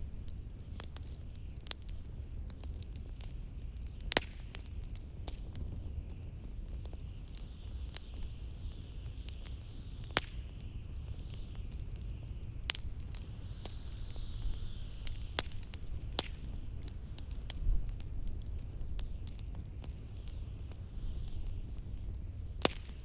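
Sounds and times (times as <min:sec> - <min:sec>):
log fire crackling: 0:00.0 - 0:23.0.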